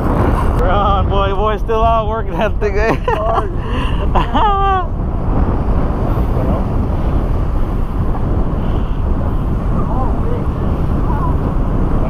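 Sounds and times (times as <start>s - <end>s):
wind blowing over microphone: 0.0s - 12.0s.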